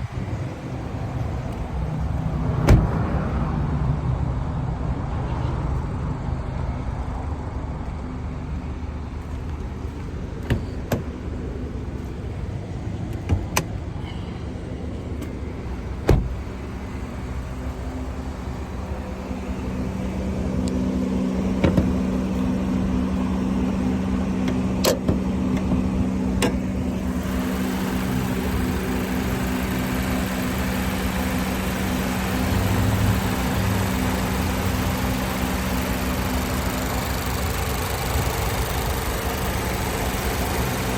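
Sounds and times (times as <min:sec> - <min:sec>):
car engine humming: 0:00.0 - 0:40.9.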